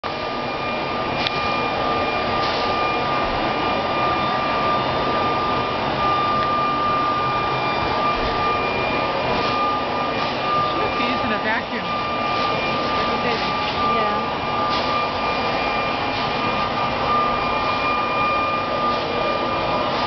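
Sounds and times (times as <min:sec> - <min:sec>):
mechanical drone: 0:00.0 - 0:20.0
thin high whine: 0:00.0 - 0:20.0.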